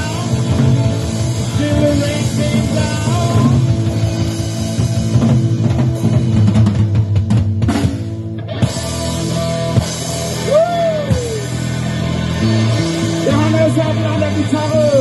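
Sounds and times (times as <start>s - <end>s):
bass: 0.0s - 15.0s
drum kit: 0.0s - 15.0s
electric guitar: 0.0s - 15.0s.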